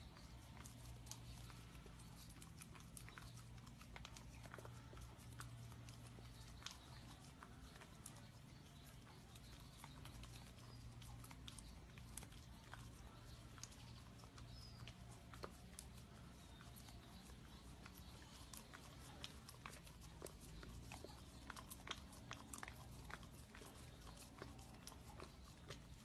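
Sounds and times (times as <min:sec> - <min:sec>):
puppy licking food: 0:00.0 - 0:26.0.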